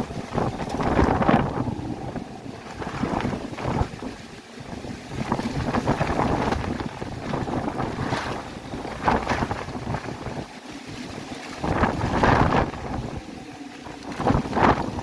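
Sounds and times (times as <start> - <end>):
gale winds gusting: 0.0 - 15.0
wind buffeting microphone: 0.0 - 15.0.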